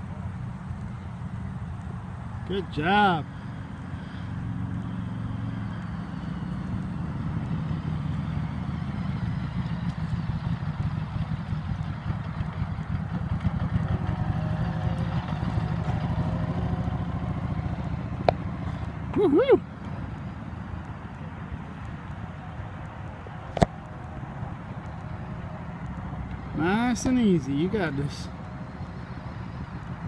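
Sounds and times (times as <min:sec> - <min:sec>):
motorcycle engine rumble: 0:00.0 - 0:30.0.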